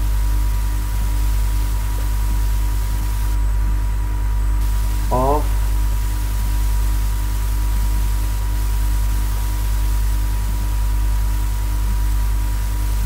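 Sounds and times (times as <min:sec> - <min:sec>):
hiss: 0:00.0 - 0:03.4, 0:04.6 - 0:13.0
low electrical hum and buzz: 0:00.0 - 0:13.0.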